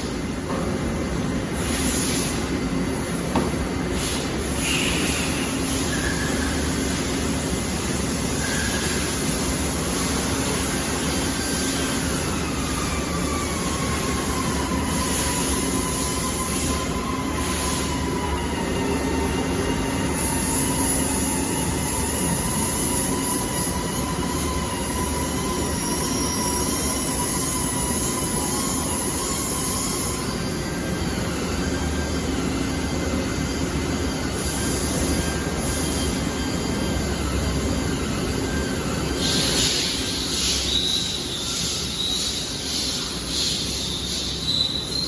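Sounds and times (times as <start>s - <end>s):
factory machinery noise: 0.0s - 45.0s.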